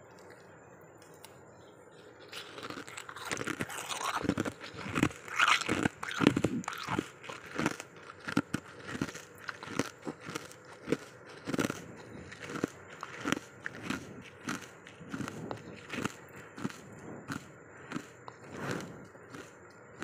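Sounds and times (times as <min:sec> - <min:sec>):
crunching frost: 0:00.1 - 0:20.0.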